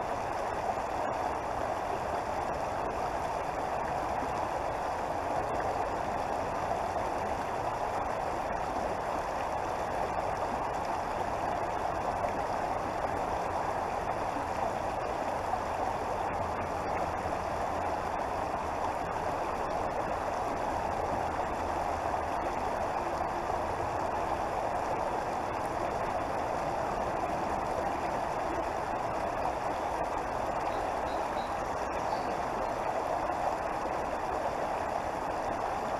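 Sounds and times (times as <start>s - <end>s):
creek water flowing: 0.0s - 35.9s.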